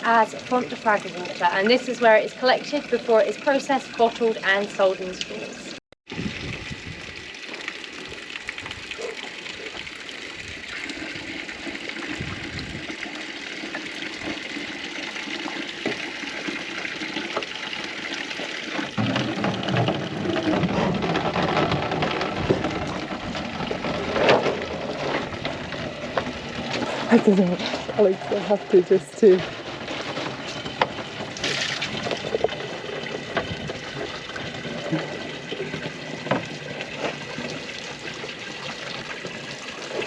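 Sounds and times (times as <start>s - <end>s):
water pouring into a container: 0.0s - 40.0s.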